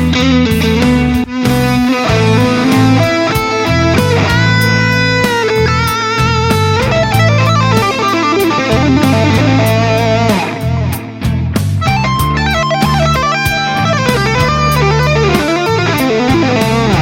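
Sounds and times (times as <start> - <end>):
electric guitar lead: 0.0 - 17.0
low bass notes: 0.0 - 17.0.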